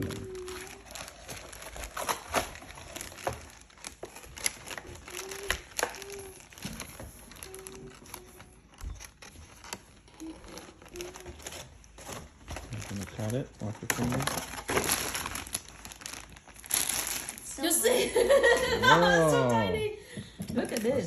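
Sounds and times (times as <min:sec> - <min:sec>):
packaging crinkling and rustling: 0:00.0 - 0:19.5.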